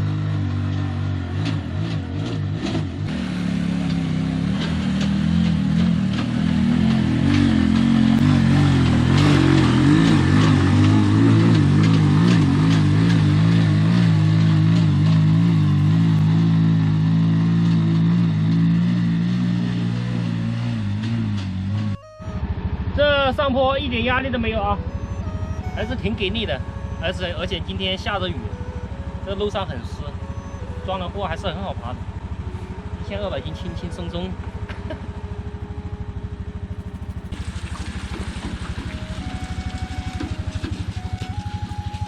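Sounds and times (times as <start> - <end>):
tricycle engine straining uphill: 0.0 - 42.0.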